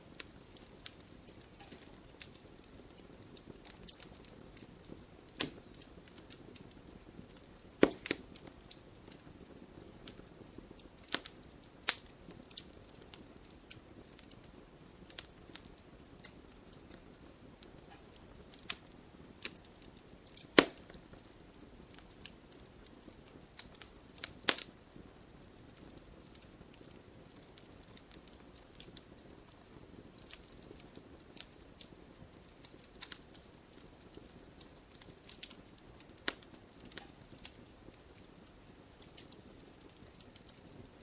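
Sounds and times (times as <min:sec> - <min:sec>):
fireplace fire crackling: 0:00.0 - 0:41.0.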